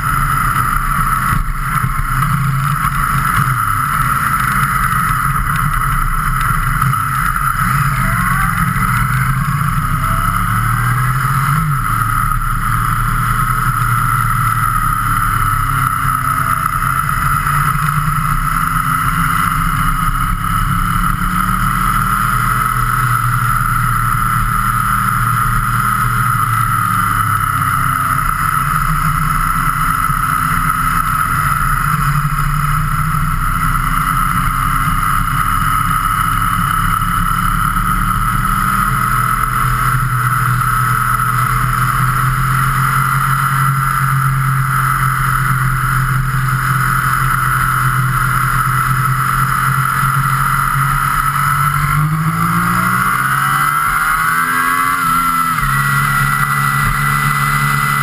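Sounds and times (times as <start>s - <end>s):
road and wind noise: 0.0s - 58.0s
vehicle engine cruising: 0.0s - 58.0s.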